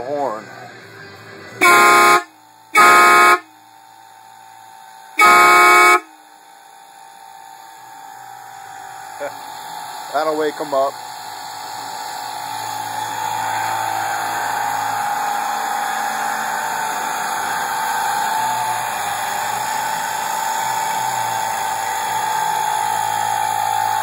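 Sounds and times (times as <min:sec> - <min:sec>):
air compressor whining: 0:01.1 - 0:24.0.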